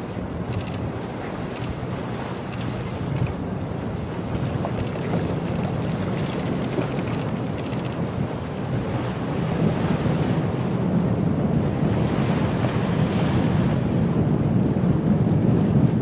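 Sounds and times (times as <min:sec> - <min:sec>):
waves washing: 0:00.0 - 0:16.0
wind buffeting microphone: 0:00.0 - 0:16.0.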